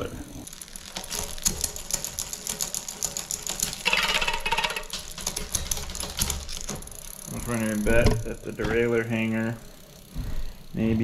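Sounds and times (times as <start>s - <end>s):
bicycle chain ticking over cogs: 0.0s - 11.0s.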